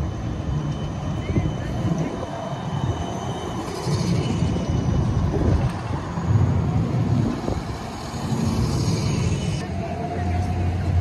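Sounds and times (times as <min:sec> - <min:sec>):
tram rolling on rails: 0:00.0 - 0:11.0.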